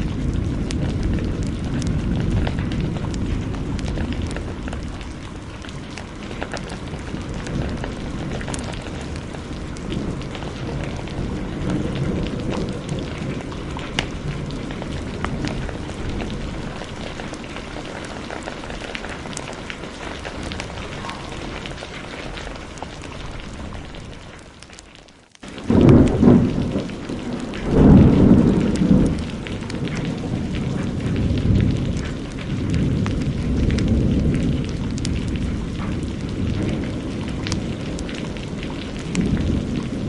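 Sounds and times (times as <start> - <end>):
thunder rumble: 0.0 - 24.4, 25.4 - 40.0
heavy rain: 0.0 - 40.0
wood fire crackling: 0.0 - 40.0.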